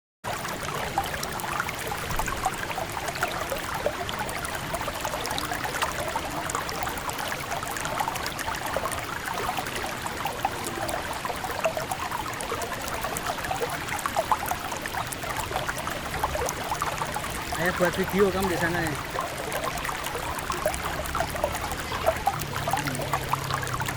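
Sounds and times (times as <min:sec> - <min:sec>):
river water babbling: 0:00.3 - 0:23.9.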